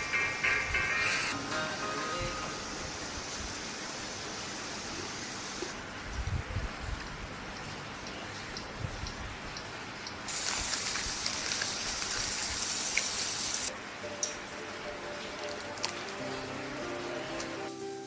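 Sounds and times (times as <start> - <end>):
rain-like hiss: 0.0 - 18.0.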